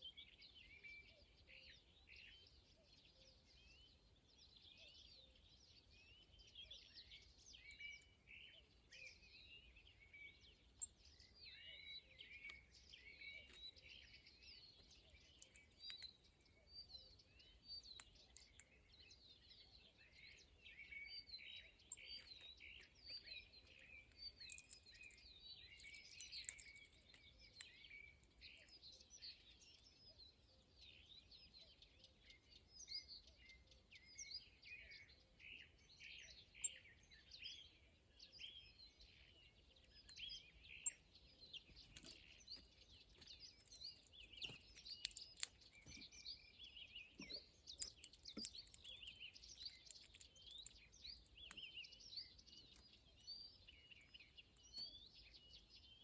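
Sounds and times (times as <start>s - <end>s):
many small birds chirping: 0.0s - 56.0s.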